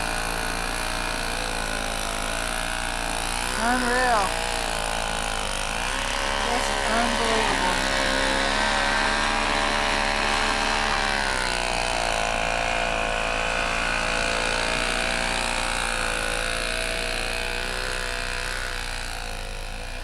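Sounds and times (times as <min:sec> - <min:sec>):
snowblower engine running: 0:00.0 - 0:20.0.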